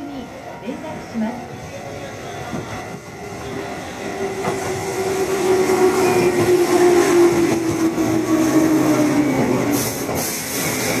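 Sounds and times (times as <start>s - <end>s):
electric train passing with whine: 1.8s - 11.0s.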